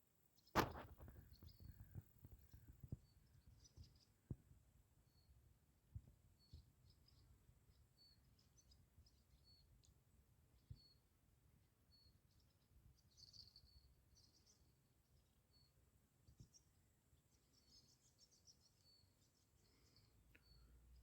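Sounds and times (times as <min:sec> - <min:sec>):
small bird chirping: 0:00.4 - 0:11.2, 0:11.8 - 0:21.0.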